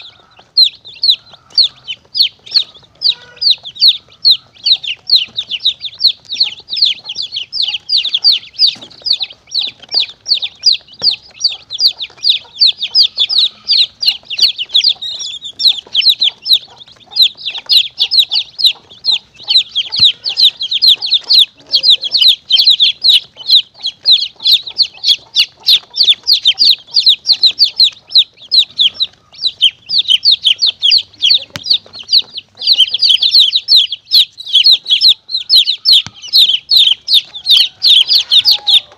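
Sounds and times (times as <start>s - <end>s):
chicks peeping shrilly: 0.0s - 38.9s.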